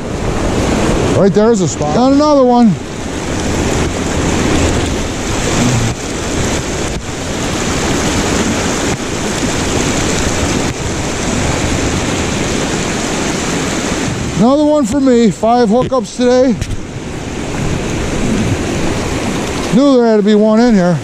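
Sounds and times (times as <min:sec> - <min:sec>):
flowing creek water: 0:00.0 - 0:21.0.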